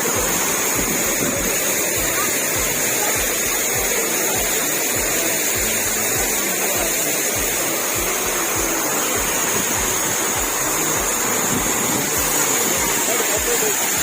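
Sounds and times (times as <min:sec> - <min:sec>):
low music beat: 0:00.0 - 0:14.0
waterfall rushing: 0:00.0 - 0:14.0.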